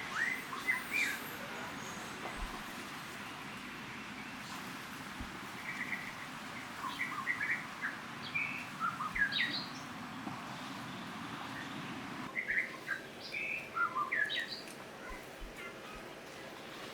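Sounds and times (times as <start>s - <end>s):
outdoor hiss: 0.0s - 16.9s.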